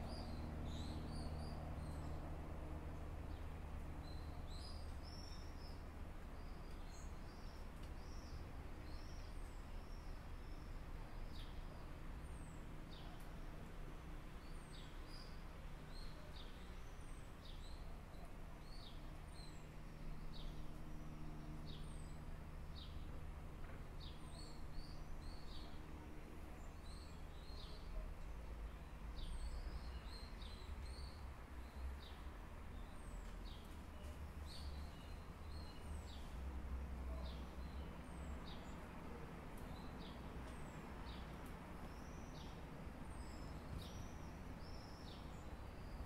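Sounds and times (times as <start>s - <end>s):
small birds chirping: 2.9s - 46.0s.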